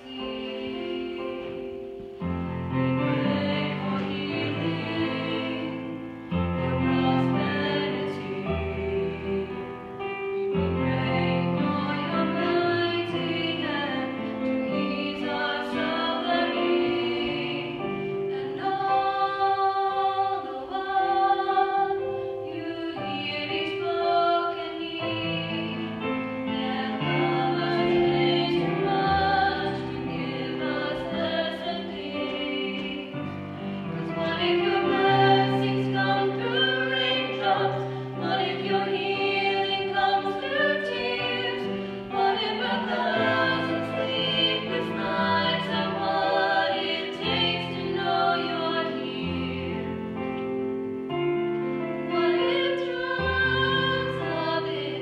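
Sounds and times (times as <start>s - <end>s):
vocal trio singing in harmony: 0.0s - 50.6s, 51.9s - 55.0s.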